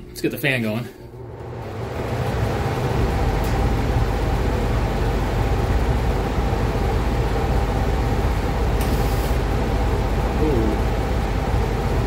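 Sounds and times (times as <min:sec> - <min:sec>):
exhaust fan running: 0:00.0 - 0:12.0.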